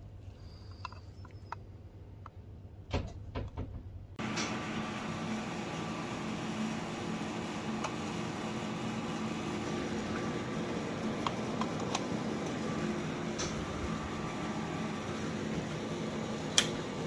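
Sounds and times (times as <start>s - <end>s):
laboratory equipment hum: 0.0s - 17.0s.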